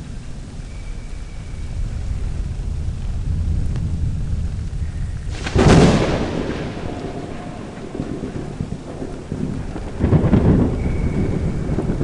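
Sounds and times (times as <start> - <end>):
low thunder rumbling: 0.0 - 12.0
loud thunderclap: 1.4 - 12.0.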